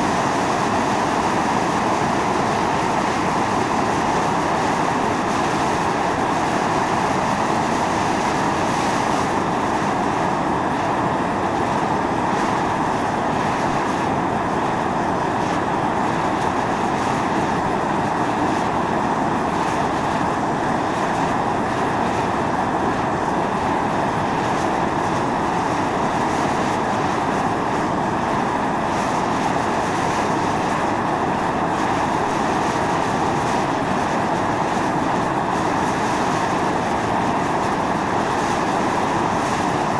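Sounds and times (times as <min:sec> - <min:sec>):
steam hissing from a vent: 0:00.0 - 0:39.9.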